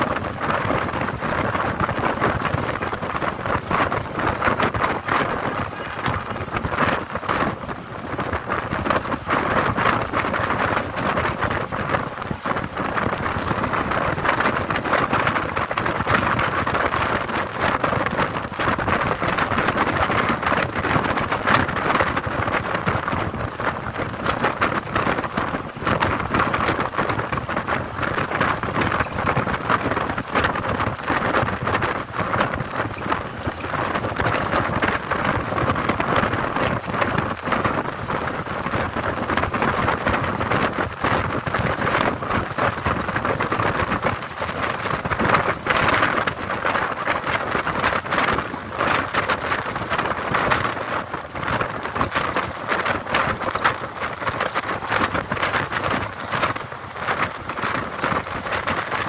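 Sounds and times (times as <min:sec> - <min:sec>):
wind and road noise: 0:00.0 - 0:59.0
wind buffeting microphone: 0:00.0 - 0:59.0.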